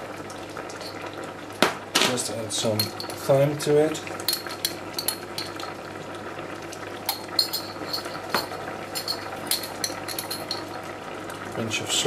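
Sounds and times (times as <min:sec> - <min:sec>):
soup simmering with bubbling pops: 0:00.0 - 0:01.9, 0:02.8 - 0:11.6.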